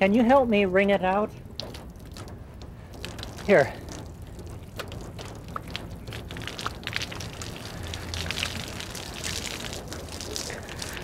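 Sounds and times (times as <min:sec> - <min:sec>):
water pattering and splashing: 0:00.0 - 0:11.0.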